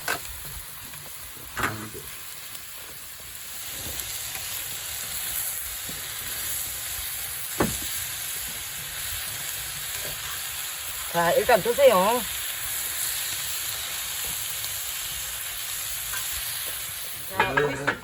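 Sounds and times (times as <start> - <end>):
meat sizzling on a griddle: 0.0 - 18.0.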